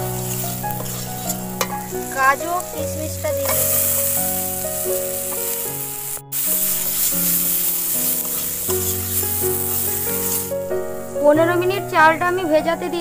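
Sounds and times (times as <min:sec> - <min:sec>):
steel spatula stirring: 0:00.0 - 0:10.6
food sizzling in hot oil: 0:00.0 - 0:12.5
background music: 0:00.0 - 0:13.0.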